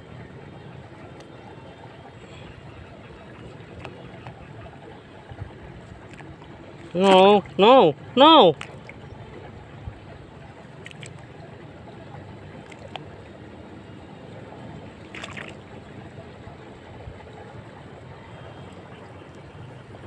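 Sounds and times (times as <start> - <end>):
faint outdoor background noise: 0.0 - 20.0.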